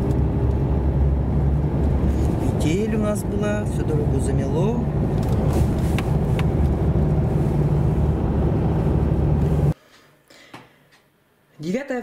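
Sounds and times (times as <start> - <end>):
car engine and road rumble: 0.0 - 9.8.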